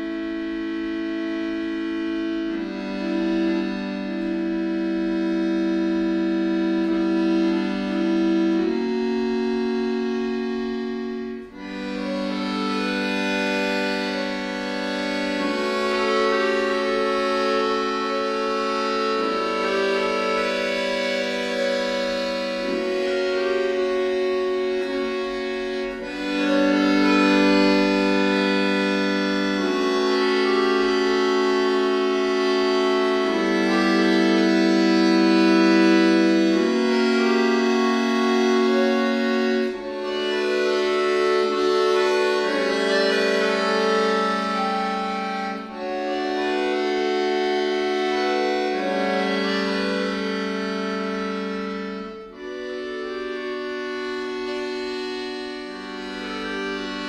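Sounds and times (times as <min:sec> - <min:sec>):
accordion chords: 0:00.0 - 0:57.0.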